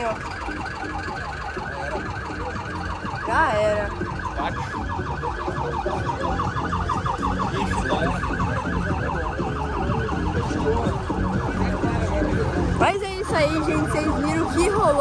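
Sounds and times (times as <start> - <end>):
police siren yelping: 0.0 - 15.0.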